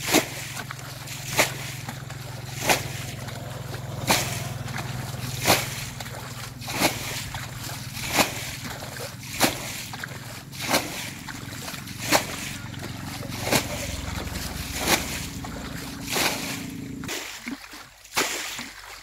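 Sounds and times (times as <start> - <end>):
bucket splashing muddy water: 0.0 - 19.0.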